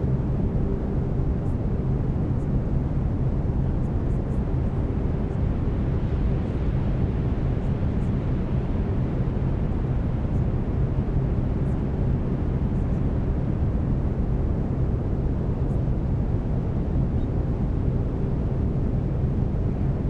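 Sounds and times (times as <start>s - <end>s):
brown noise rumbling hiss: 0.0s - 20.0s.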